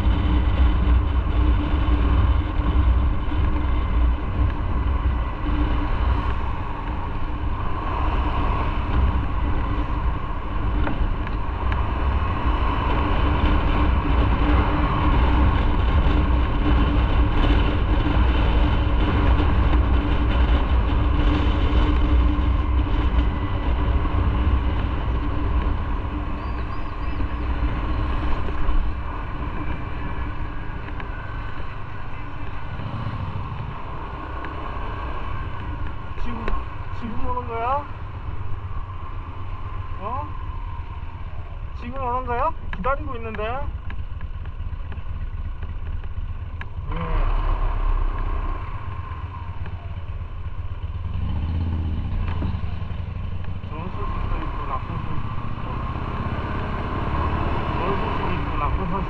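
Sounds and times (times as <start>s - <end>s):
motorcycle engine running: 0.0s - 59.0s
wind and road rumble: 0.0s - 59.0s.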